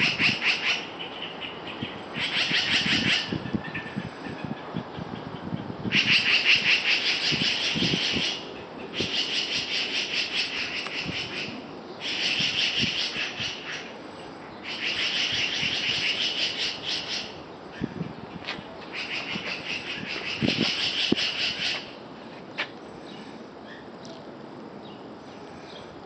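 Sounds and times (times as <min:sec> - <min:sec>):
birds chattering alarm calls: 0:00.0 - 0:24.0.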